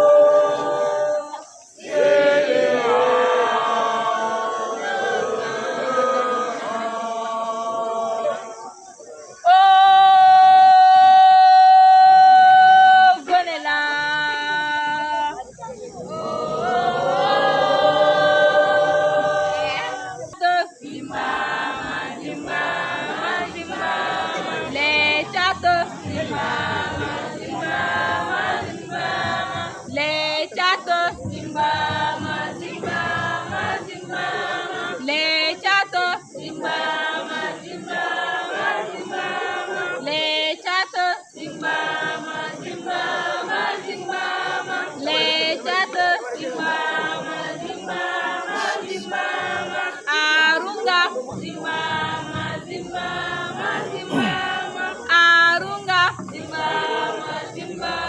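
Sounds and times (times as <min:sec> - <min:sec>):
group singing in chorus: 0:00.0 - 0:58.0.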